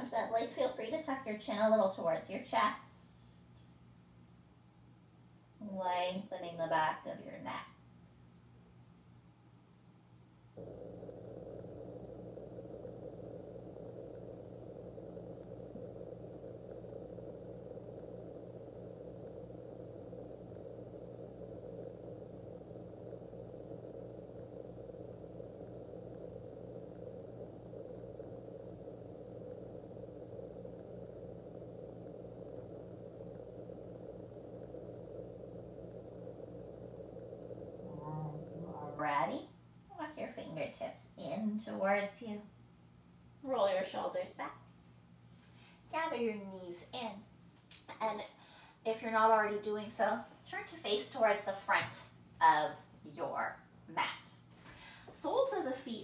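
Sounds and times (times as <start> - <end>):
low droning hum: 0.0 - 56.0.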